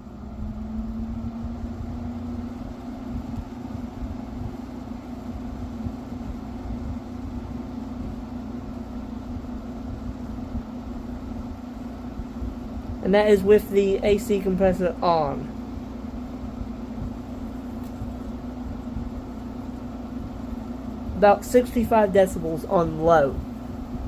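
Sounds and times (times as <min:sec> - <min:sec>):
window air conditioner running: 0:00.0 - 0:24.0.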